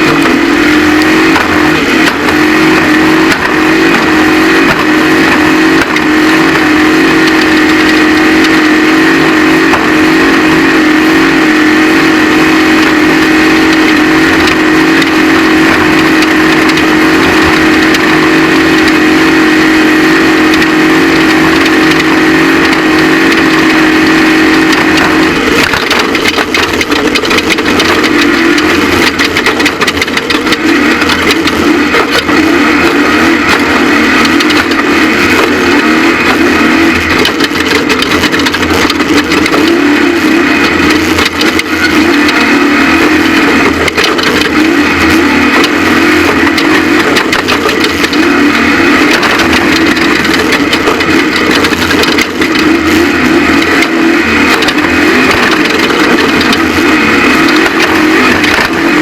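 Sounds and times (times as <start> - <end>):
knocks and rattles over rough ground: 0.0 - 59.0
race vehicle engine running hard: 0.0 - 59.0.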